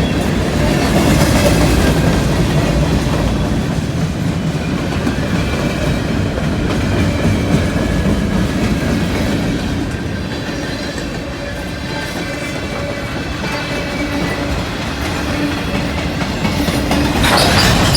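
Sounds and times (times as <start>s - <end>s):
freight train rumbling past: 0.0s - 17.9s.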